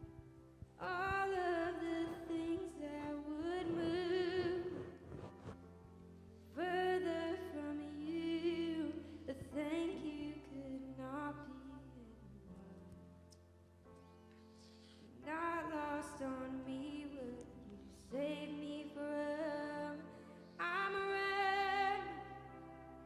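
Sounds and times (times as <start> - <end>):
soft sustained accompaniment: 0.0 - 23.0.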